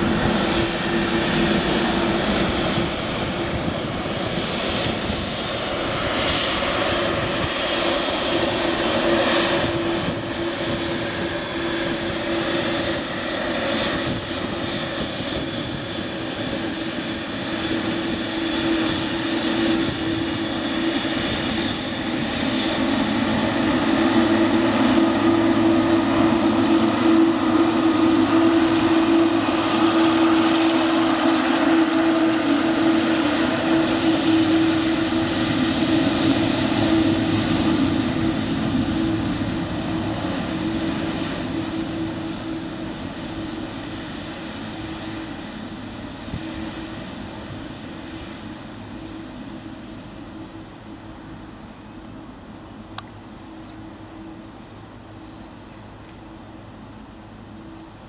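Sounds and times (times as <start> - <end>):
jet engine drone: 0.0 - 58.0.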